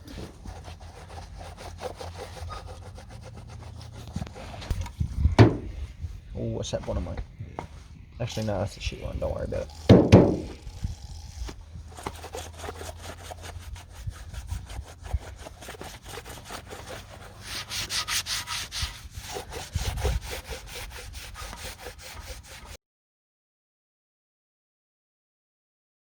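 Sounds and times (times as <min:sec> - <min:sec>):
rapid scrubbing strokes: 0:00.0 - 0:22.8.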